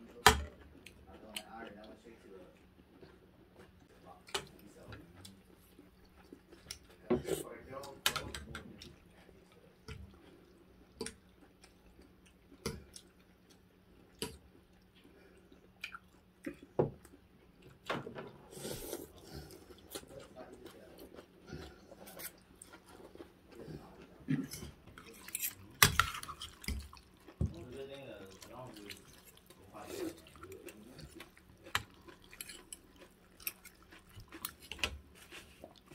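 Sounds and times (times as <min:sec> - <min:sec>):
chewing: 0:00.4 - 0:17.9, 0:18.5 - 0:35.9.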